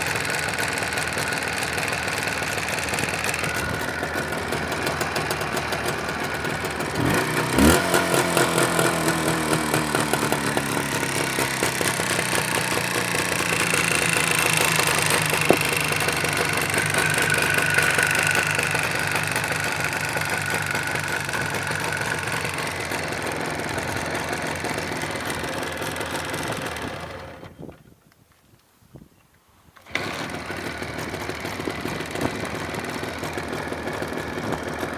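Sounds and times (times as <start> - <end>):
engine knocking: 0.0 - 27.4, 29.9 - 34.9
motorcycle engine revving: 0.0 - 27.6, 29.8 - 34.9.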